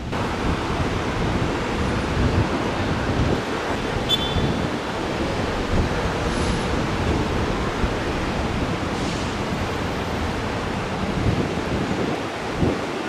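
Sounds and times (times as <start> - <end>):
road traffic: 0.0 - 13.0
wind buffeting microphone: 0.0 - 13.0.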